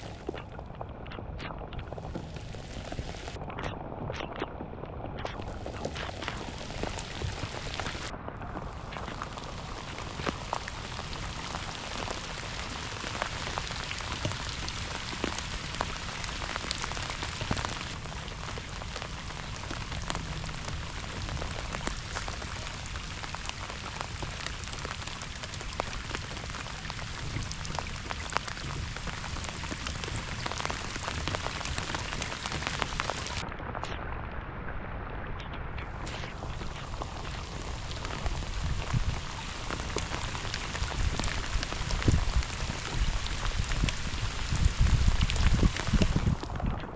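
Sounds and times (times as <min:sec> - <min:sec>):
raindrops ticking: 0:00.0 - 0:46.9
steady rain falling: 0:00.0 - 0:46.9.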